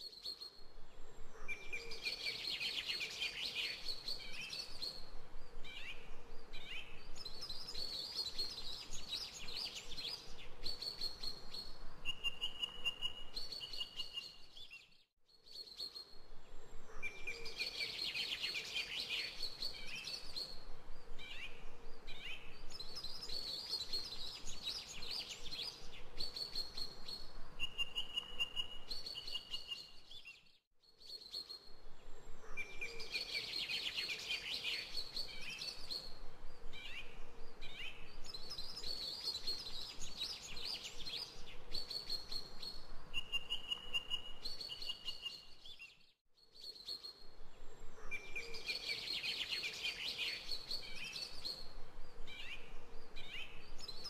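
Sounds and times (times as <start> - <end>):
birdsong chirps and whistles: 0.0 - 54.0.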